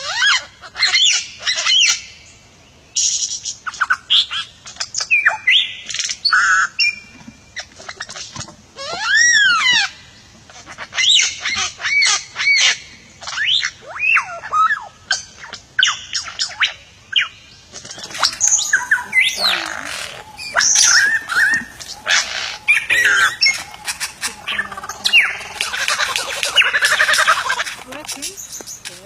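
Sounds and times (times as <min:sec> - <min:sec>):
harsh rasping bird calls: 0:00.0 - 0:02.3, 0:03.0 - 0:29.0
songbird whistled notes and chirps: 0:01.0 - 0:07.1, 0:11.0 - 0:29.0.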